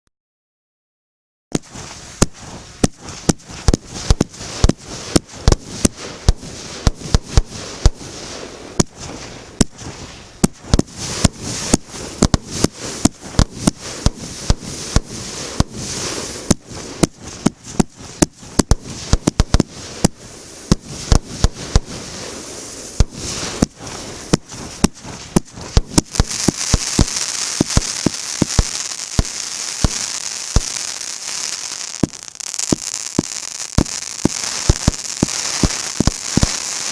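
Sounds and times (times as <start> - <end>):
fireworks hissing: 1.5 - 36.9
fireworks shots and bursts: 1.5 - 36.9.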